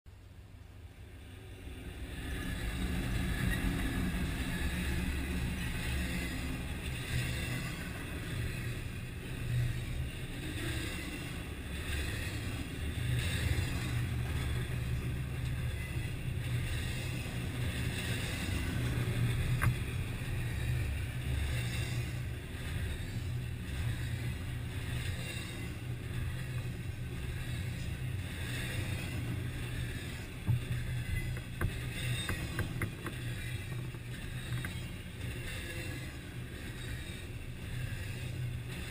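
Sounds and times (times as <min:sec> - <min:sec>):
train wheels rumbling on rails: 0:00.1 - 0:38.9.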